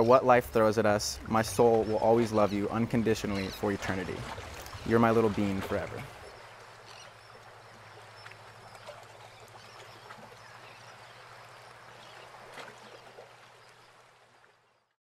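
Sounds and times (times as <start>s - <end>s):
sea water lapping and trickling: 0.0s - 14.9s
small splashes: 1.0s - 14.6s.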